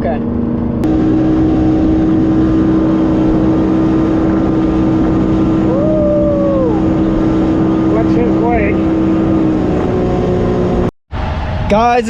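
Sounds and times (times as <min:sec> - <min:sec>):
boat motor humming: 0:00.0 - 0:11.0
wind and water noise: 0:00.3 - 0:12.0
short rising tone: 0:00.8 - 0:11.7.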